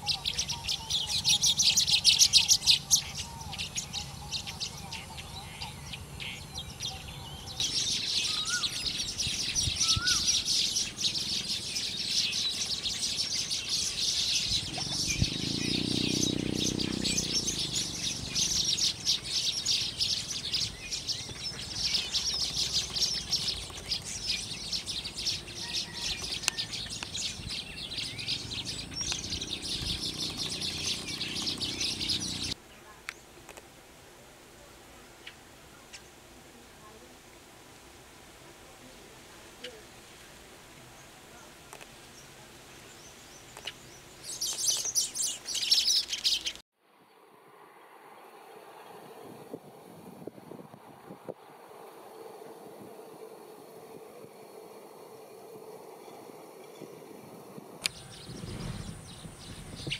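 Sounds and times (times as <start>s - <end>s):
many small birds twittering: 0.0s - 33.4s, 38.7s - 46.6s, 51.3s - 59.9s.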